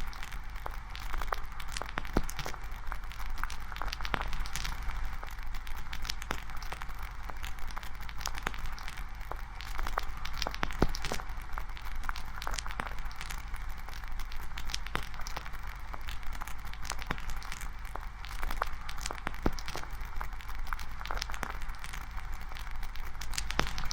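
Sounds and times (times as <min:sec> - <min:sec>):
campfire crackling and popping: 0:00.0 - 0:23.9.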